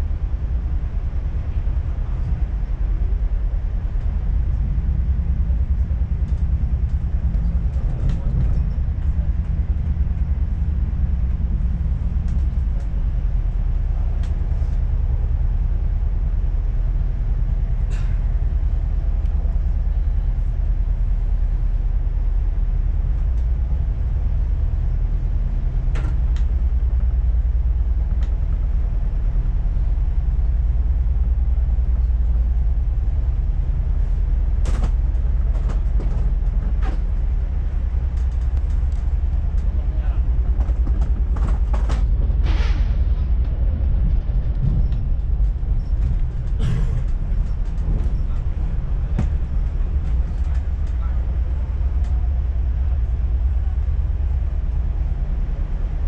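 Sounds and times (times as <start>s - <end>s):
train rumble inside carriage: 0.0s - 56.0s.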